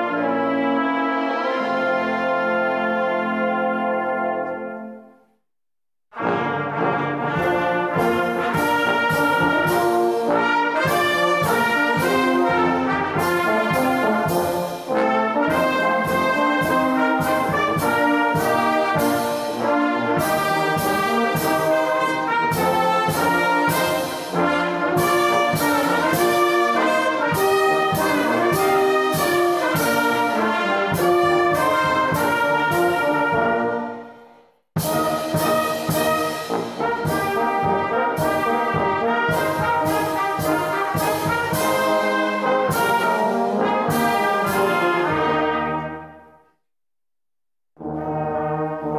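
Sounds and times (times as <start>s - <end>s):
brass band playing a hymn: 0.0s - 5.2s, 6.2s - 46.4s, 47.8s - 48.9s.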